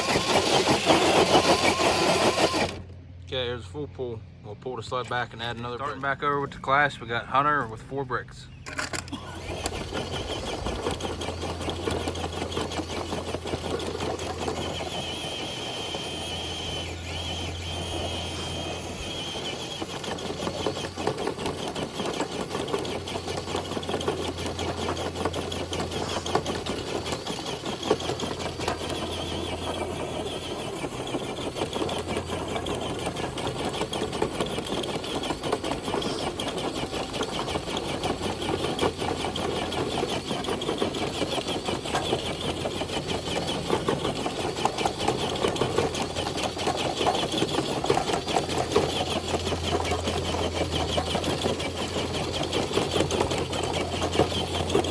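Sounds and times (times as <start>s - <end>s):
electric motor whining: 0.0s - 3.0s, 8.8s - 54.9s
fine rattle: 8.7s - 54.9s.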